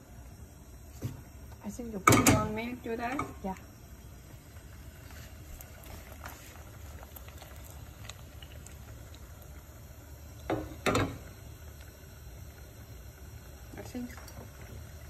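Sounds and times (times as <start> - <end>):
syrup boiling and bubbling: 0.0 - 15.0.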